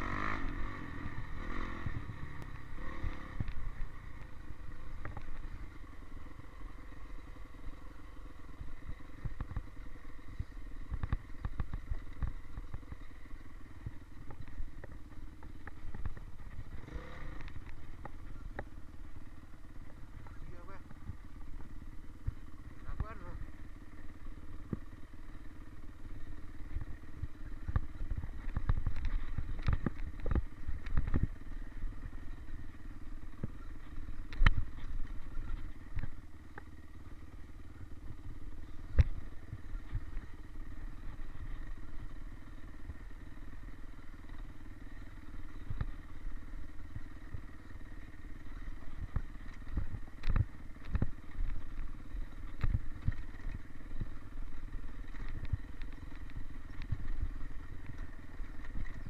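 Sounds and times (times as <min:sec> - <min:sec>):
dirt bike engine running: 0:00.0 - 0:59.0
knocks and rattles of bike: 0:00.0 - 0:59.0.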